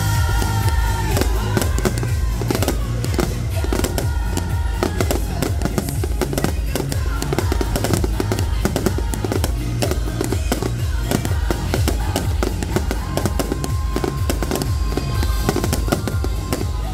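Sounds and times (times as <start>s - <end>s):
fireworks bursting: 0.0s - 16.9s
music with steady bass: 0.0s - 16.9s.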